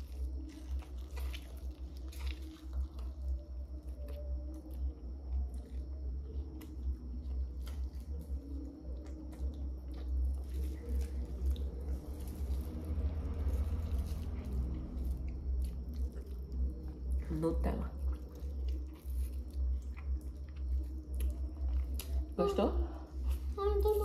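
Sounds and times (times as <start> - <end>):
person chewing and sucking ice pop: 0.0 - 17.2, 18.0 - 22.3
low hum: 0.0 - 24.0.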